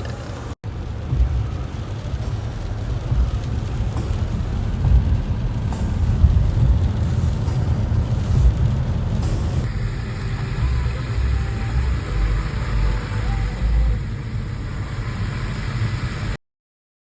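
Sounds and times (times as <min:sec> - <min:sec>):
car engine and tyre rumble: 0:00.0 - 0:16.4.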